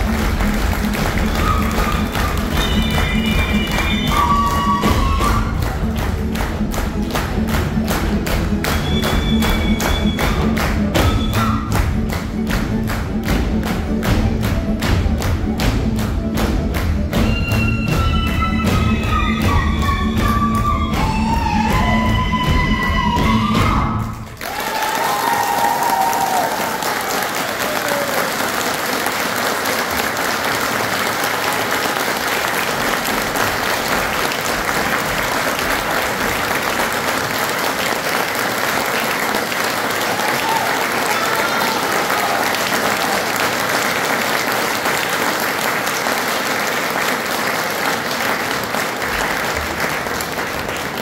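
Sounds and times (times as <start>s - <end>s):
audience applauding: 0.0s - 51.0s.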